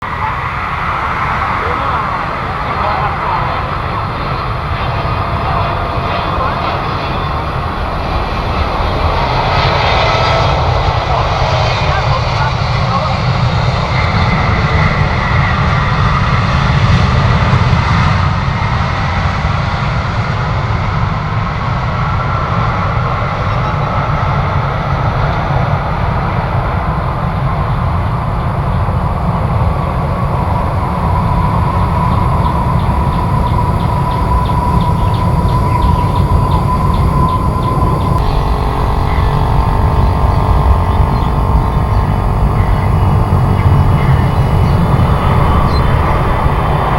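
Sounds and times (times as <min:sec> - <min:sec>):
jet engines rumbling and whining: 0:00.0 - 0:46.9.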